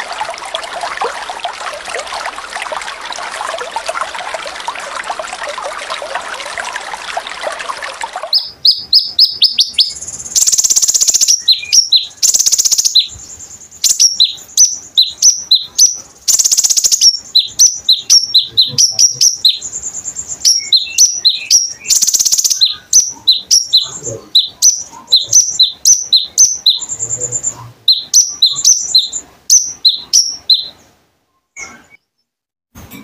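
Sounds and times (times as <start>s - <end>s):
songbird chirping: 0.0s - 32.3s.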